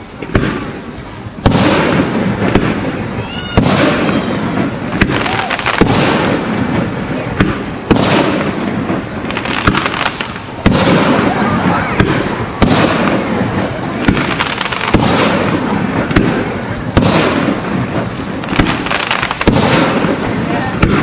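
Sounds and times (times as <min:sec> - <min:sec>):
firework bangs: 0:00.0 - 0:21.0
firework crackling: 0:00.0 - 0:21.0
rumbling echo: 0:00.0 - 0:21.0.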